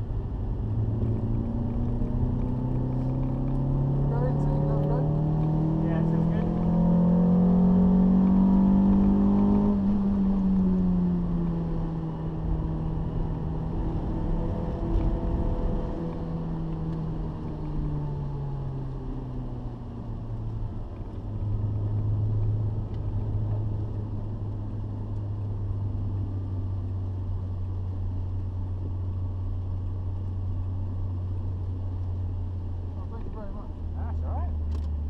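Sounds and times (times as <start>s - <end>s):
car engine from inside cabin: 0.0s - 35.0s.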